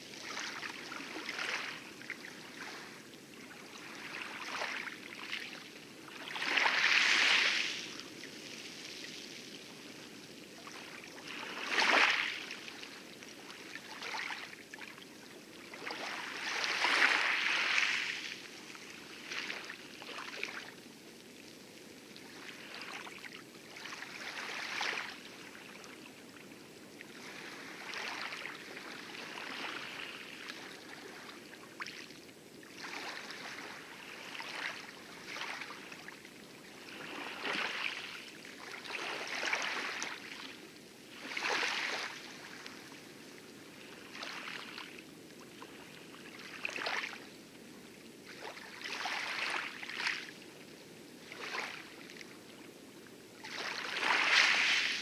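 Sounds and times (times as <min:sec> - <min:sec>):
waves lapping around a boat: 0:00.0 - 0:55.0.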